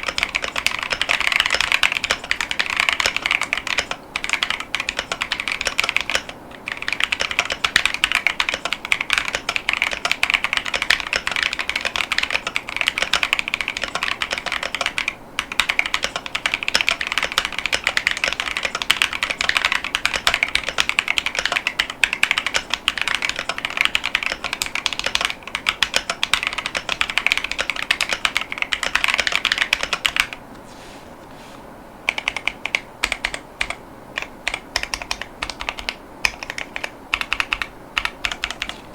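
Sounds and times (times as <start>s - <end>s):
fast typing on mechanical keyboard: 0.0s - 30.4s, 32.1s - 38.9s.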